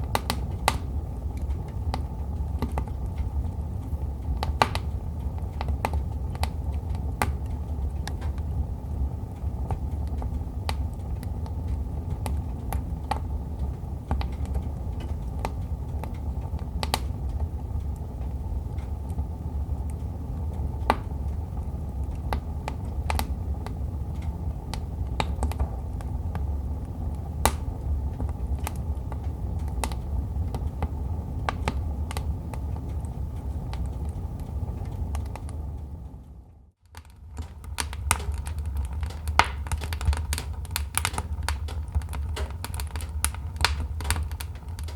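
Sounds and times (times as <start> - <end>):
fire popping and snapping: 0.0 - 44.9
fire rumbling: 0.0 - 44.9.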